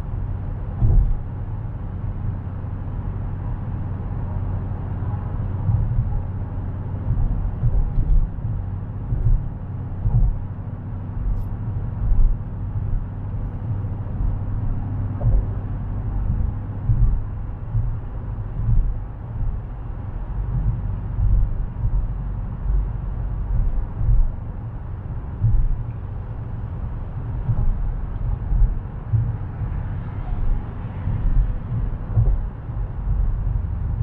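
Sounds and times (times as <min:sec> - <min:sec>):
low thumps: 0:00.0 - 0:01.5, 0:05.4 - 0:34.0
engine and road noise drone: 0:00.0 - 0:34.0.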